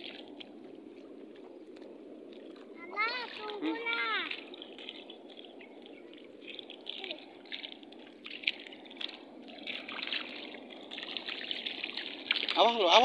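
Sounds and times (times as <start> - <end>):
footsteps on wet ground: 0.0 - 12.8
shallow water lapping: 0.0 - 13.0.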